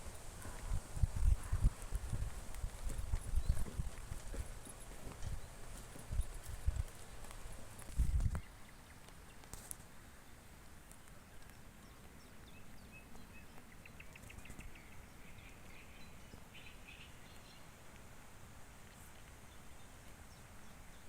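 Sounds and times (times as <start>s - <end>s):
birds chirping: 0.0s - 9.5s, 10.2s - 17.8s.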